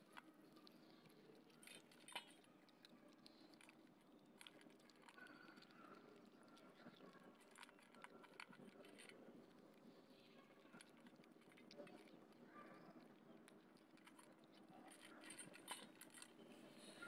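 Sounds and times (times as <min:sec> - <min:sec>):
cats chewing dry kibble: 0:00.0 - 0:17.0.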